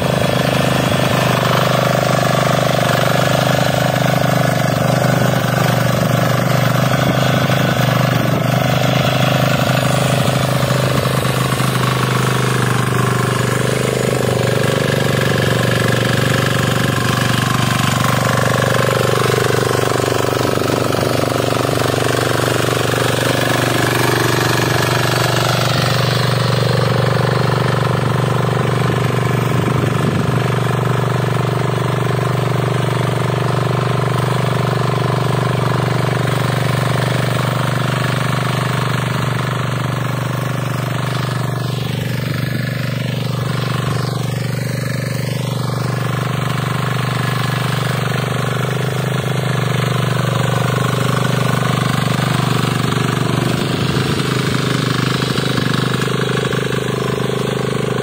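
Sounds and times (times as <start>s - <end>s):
diesel engine running under load: 0.0s - 58.0s
rotary tines tilling soil: 0.0s - 58.0s.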